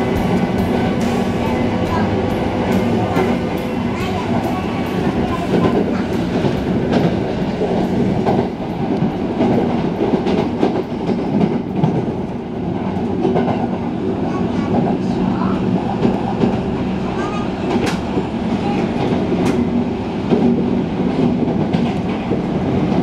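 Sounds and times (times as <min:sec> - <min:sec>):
train rumble from inside: 0:00.0 - 0:23.0.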